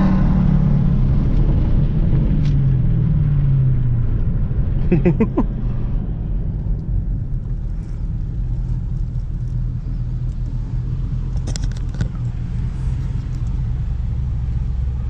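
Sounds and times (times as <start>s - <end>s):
engine rumbling at low revs: 0.0s - 15.0s.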